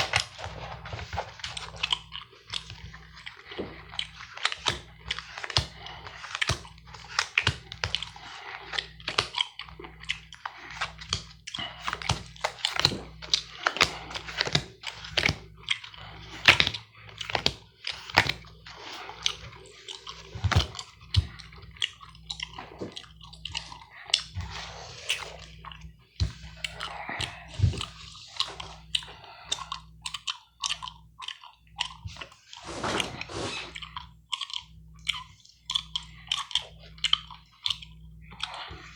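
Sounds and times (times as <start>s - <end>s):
gum chewing wet smacks: 0.0s - 32.7s, 33.6s - 38.9s.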